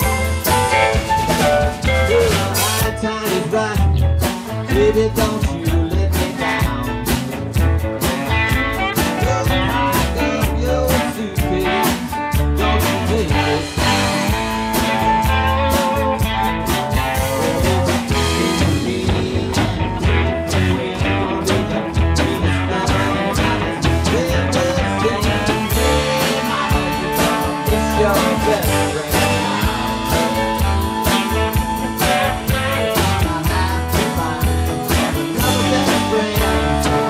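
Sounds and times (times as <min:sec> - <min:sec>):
pedal steel guitar lead lines: 0:00.0 - 0:03.2, 0:06.5 - 0:37.0
live band playing: 0:00.0 - 0:37.0.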